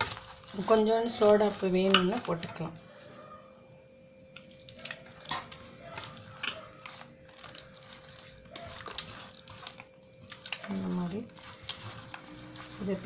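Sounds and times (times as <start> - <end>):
batter squelching in a bowl: 0.0 - 3.5, 4.4 - 13.0.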